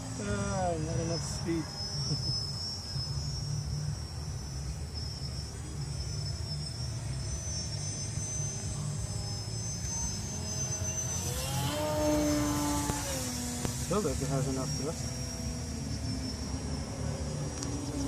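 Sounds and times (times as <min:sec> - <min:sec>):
low steady rumble: 0:00.0 - 0:18.0
model plane motor and propeller: 0:00.0 - 0:18.0.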